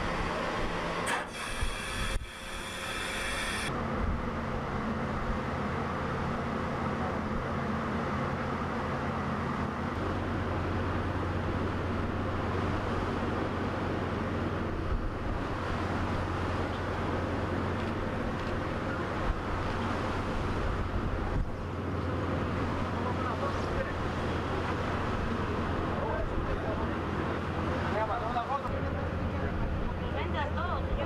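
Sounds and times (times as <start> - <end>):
boat engine drone: 0.0 - 31.0
wind and sea noise: 0.0 - 31.0.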